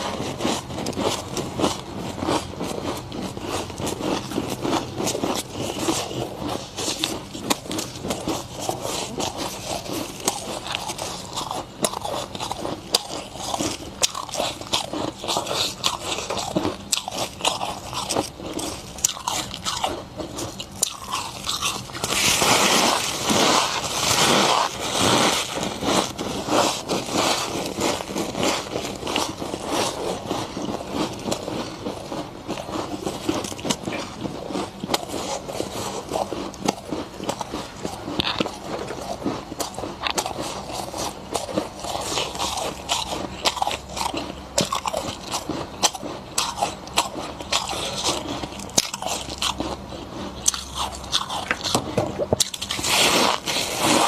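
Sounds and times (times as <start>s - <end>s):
frost crunching while chewed: 0.0s - 54.0s.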